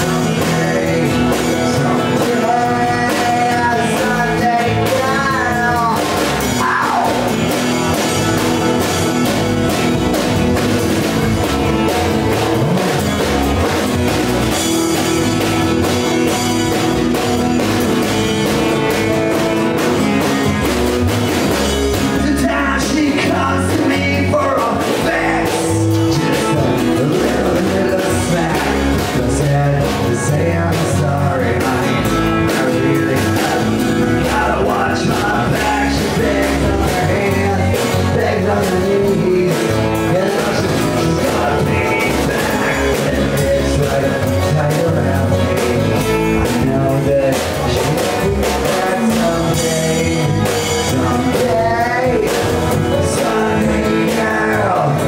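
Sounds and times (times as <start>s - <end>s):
man singing: 0.0s - 20.7s, 21.3s - 55.0s
rock band playing: 0.0s - 55.0s.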